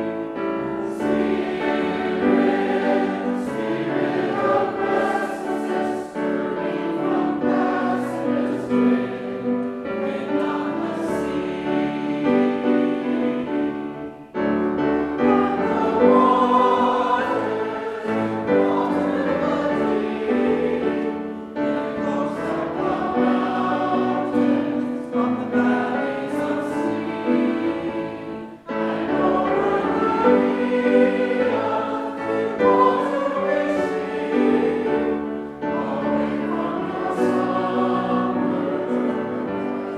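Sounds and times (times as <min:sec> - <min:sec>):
choir singing sustained chords: 0:00.0 - 0:39.9.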